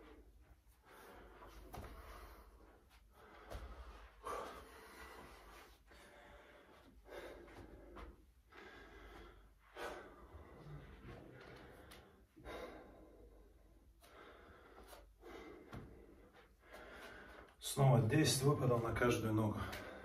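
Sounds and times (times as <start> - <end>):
man breathing heavily: 0.0 - 17.6, 19.6 - 20.0.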